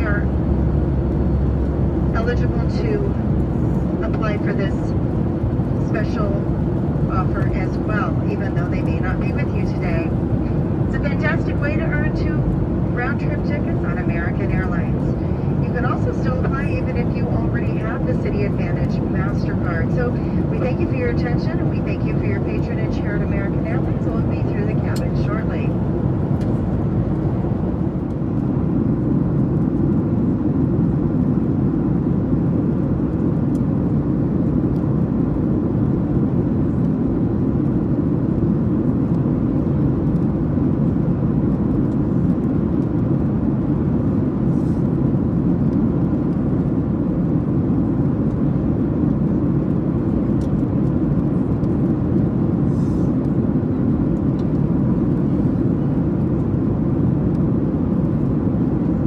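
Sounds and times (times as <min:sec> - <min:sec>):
airflow over fuselage: 0:00.0 - 0:59.0
jet engines rumbling: 0:00.0 - 0:59.0.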